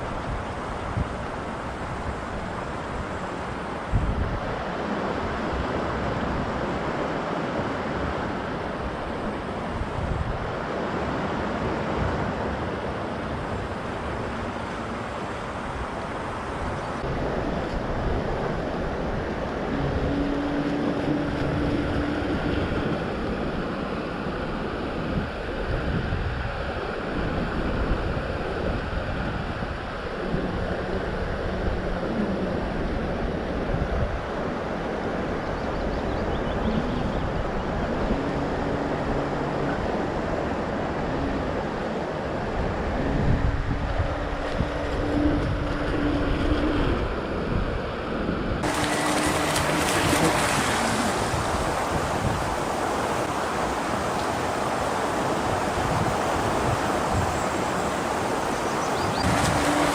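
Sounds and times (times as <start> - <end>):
waves washing: 0.0 - 59.9
wind buffeting microphone: 0.0 - 59.9.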